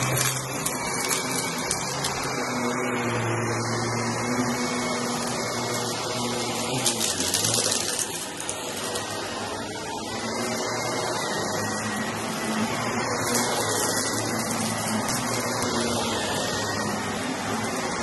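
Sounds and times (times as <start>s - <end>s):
brushroll crunching on rugs: 0.0s - 18.0s
upright vacuum cleaner running: 0.0s - 18.0s.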